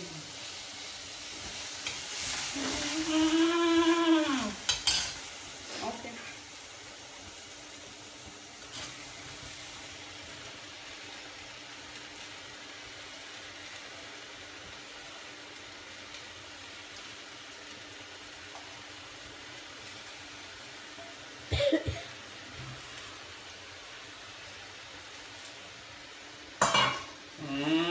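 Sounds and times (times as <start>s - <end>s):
okra sizzling in a pan: 0.0s - 27.9s.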